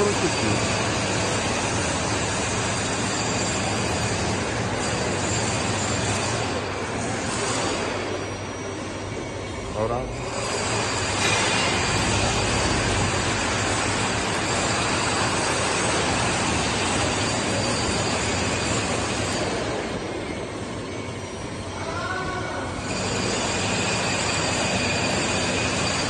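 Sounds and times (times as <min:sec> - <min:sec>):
boring mill running: 0:00.0 - 0:26.0
short pitched squeal: 0:02.8 - 0:26.0.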